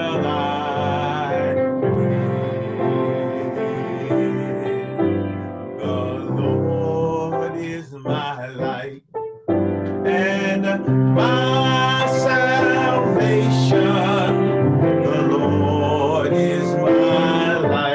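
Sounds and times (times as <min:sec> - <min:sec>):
person singing: 0:00.0 - 0:09.0, 0:09.9 - 0:17.9
piano accompaniment: 0:00.0 - 0:17.9.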